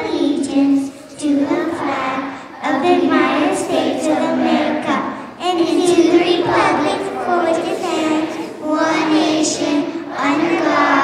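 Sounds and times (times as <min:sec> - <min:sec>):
children speaking in unison: 0:00.0 - 0:11.0.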